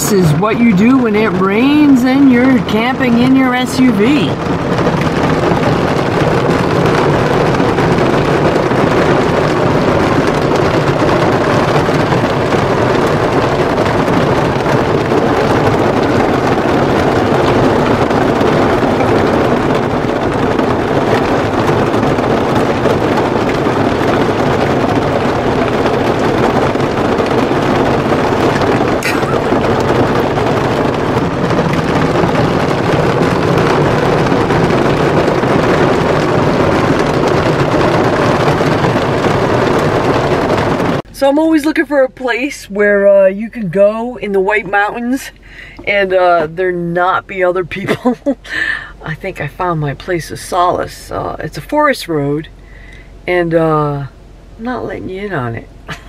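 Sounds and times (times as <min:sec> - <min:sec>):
heavy rain drumming on car roof: 0:00.0 - 0:56.0.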